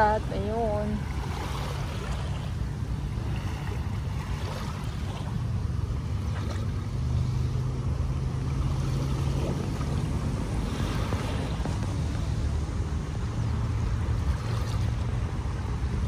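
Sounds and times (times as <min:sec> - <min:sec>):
waves lapping on sand: 0:00.0 - 0:16.0
wind rumble on microphone: 0:00.0 - 0:16.0.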